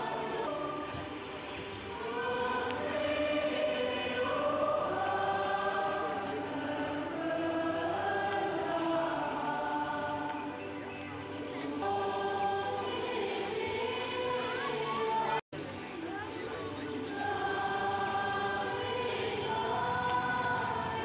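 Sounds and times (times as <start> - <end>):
group singing a hymn: 0.0 - 15.4, 16.6 - 21.0.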